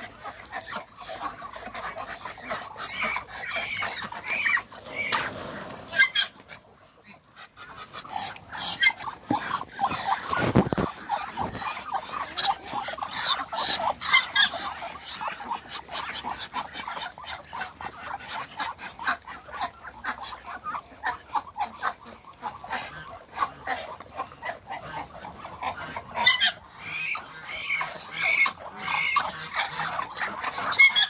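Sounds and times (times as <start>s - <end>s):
ducks and geese calling: 0.0s - 31.0s.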